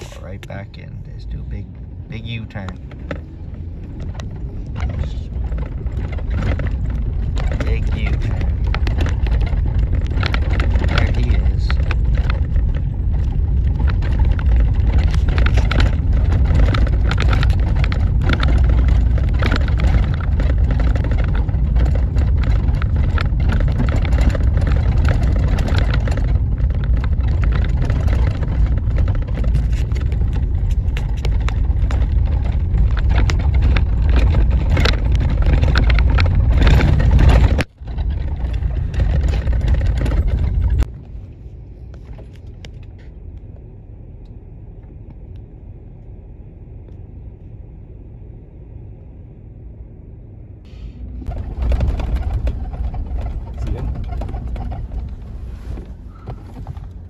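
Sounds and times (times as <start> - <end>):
rattles and knocks: 0.0 - 41.0, 51.0 - 57.0
vehicle cab low rumble: 0.0 - 57.0.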